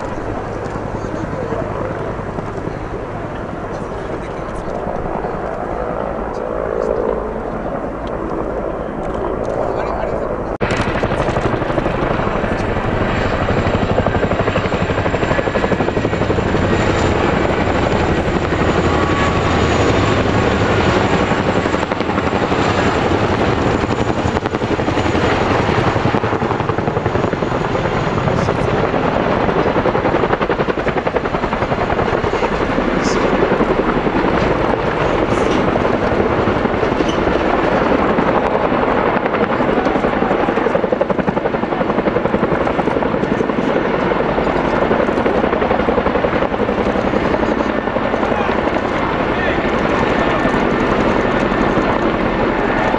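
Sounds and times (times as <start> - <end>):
helicopter rotor noise: 0.0 - 52.9.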